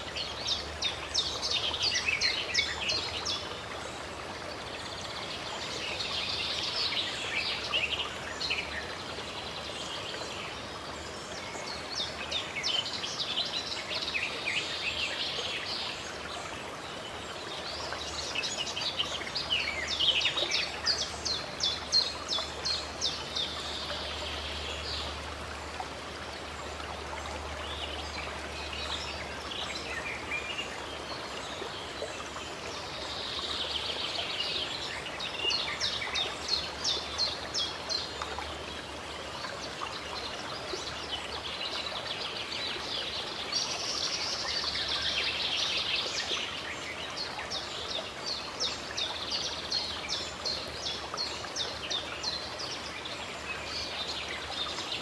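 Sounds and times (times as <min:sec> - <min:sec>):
running water hiss: 0:00.0 - 0:55.0.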